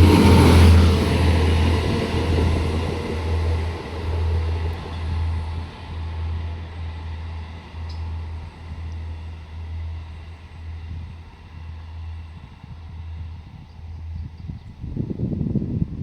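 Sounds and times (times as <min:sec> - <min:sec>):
constant low rumble: 0:00.0 - 0:16.0
diesel train engines: 0:00.0 - 0:16.0.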